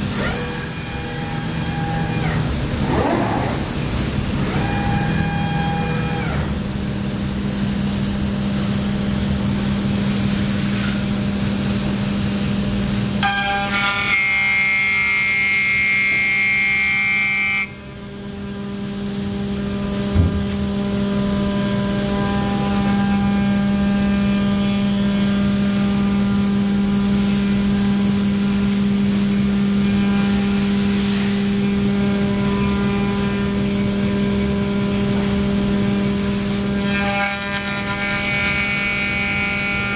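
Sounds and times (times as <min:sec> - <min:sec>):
milling machine hum and whine: 0:00.0 - 0:39.9.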